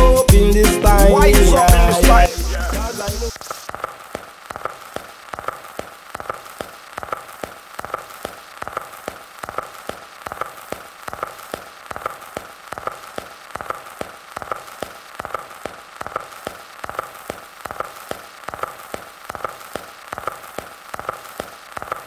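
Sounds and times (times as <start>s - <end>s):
dense crackling clicks: 2.2s - 22.0s.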